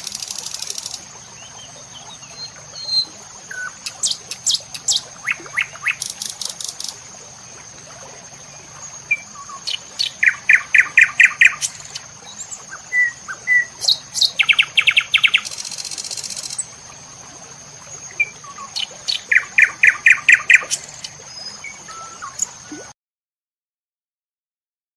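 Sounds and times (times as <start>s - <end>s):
birds chirping: 0.0s - 7.7s, 8.4s - 16.8s, 17.9s - 22.7s.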